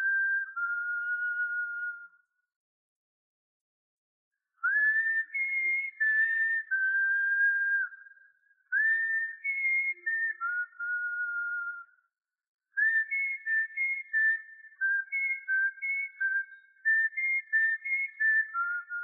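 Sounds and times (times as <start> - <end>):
person whistling a tune: 0.0 - 2.1, 4.6 - 11.9, 12.8 - 19.0.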